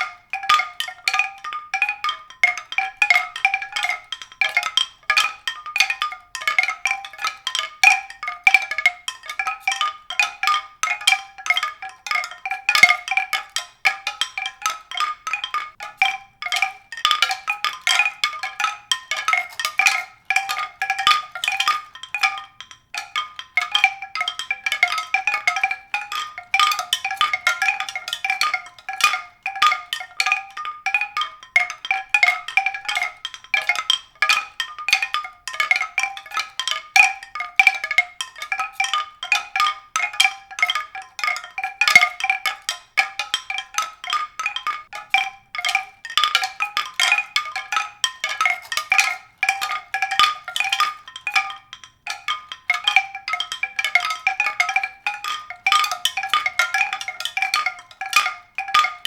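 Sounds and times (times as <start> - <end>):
tuned percussion ringing notes: 0.0 - 59.0.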